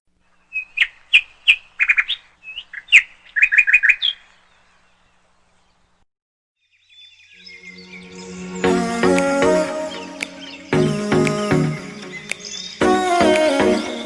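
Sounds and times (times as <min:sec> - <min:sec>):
birds chirping and trilling: 0:00.1 - 0:06.0, 0:06.6 - 0:14.0.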